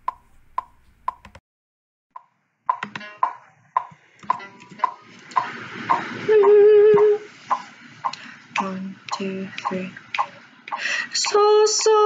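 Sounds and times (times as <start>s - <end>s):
metronome ticking: 2.2s - 12.0s.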